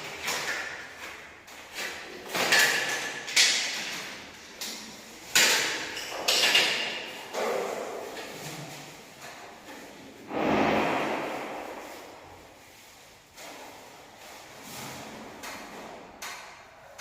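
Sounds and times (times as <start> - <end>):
sharp knocks and scraping clatters: 0.0 - 17.0.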